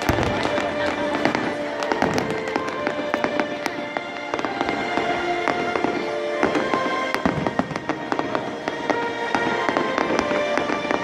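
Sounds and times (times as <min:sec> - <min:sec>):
fireworks bangs and crackling: 0:00.0 - 0:11.0
music playing: 0:00.0 - 0:11.0.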